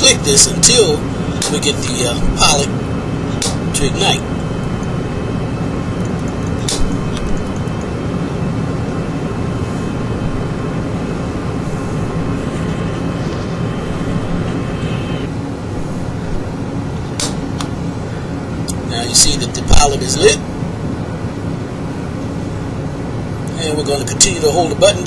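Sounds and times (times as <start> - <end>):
low rumbling drone: 0.0 - 24.8.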